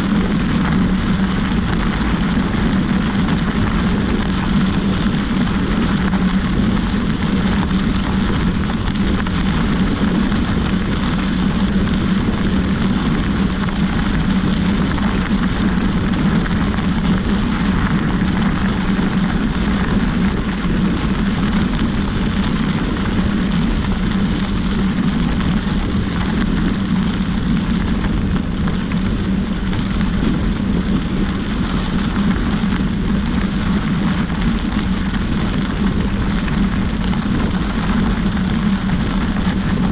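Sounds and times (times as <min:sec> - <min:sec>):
wind rushing across microphone: 0:00.0 - 0:39.9.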